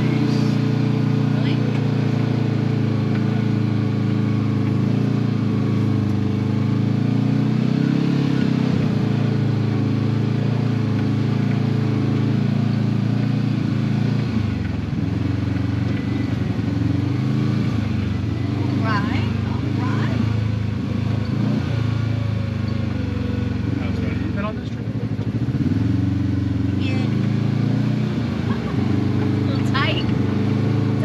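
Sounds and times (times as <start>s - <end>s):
utility vehicle engine running: 0.0s - 31.0s.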